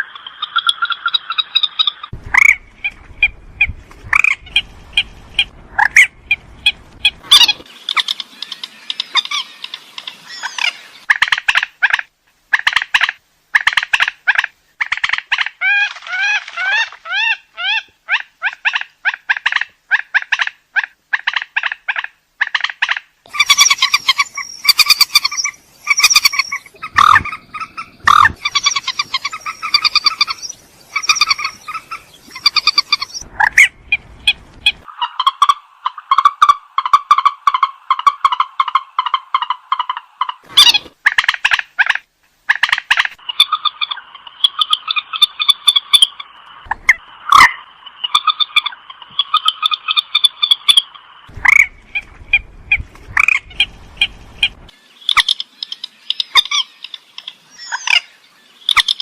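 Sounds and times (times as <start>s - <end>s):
rail bird croaking calls: 0.0s - 59.0s.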